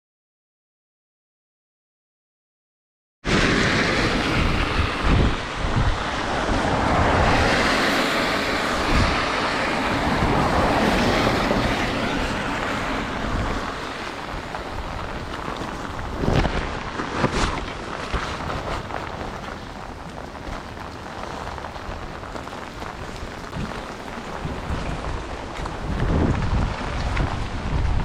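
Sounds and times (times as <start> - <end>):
strong wind buffeting microphone: 3.3 - 28.0.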